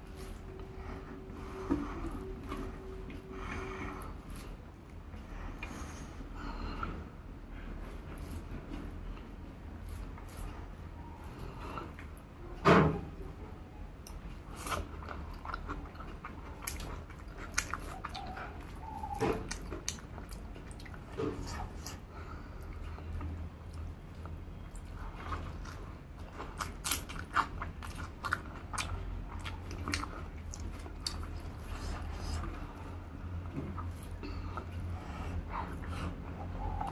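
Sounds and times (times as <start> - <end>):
person chewing food: 0.0 - 7.2, 14.0 - 36.9
steady low hum: 0.0 - 36.9.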